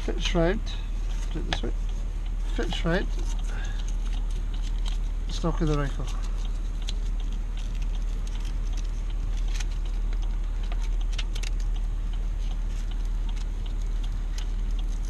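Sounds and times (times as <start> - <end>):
steady low rumble: 0.0 - 15.0
clicks and rustles of strap handling: 1.0 - 15.0.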